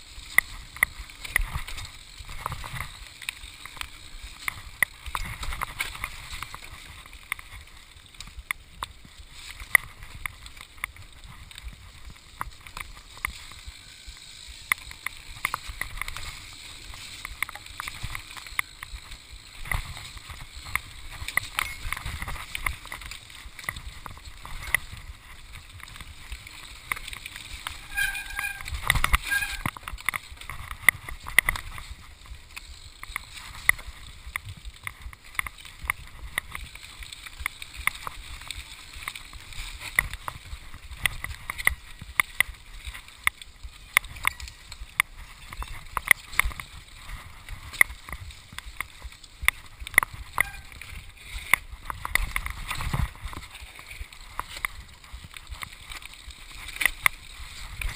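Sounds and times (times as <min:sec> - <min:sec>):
bike rattling: 0:00.0 - 0:57.9.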